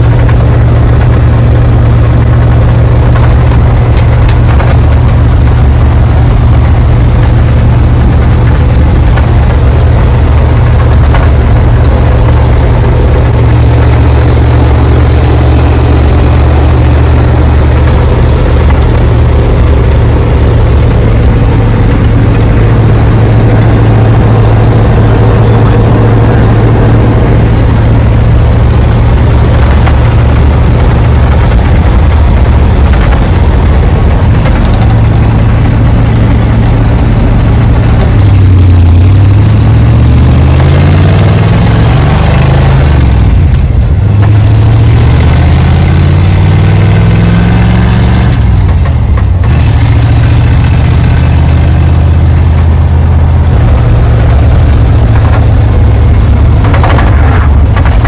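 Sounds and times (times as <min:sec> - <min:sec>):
road and wind noise: 0:00.0 - 0:58.0
truck engine droning: 0:00.0 - 0:58.0.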